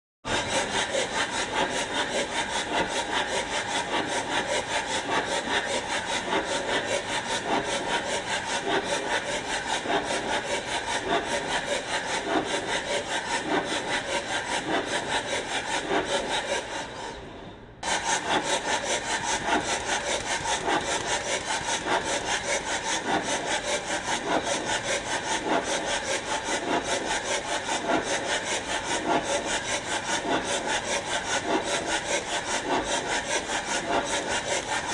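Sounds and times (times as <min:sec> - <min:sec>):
hand tool scraping strokes: 0:00.3 - 0:17.2, 0:17.8 - 0:34.9.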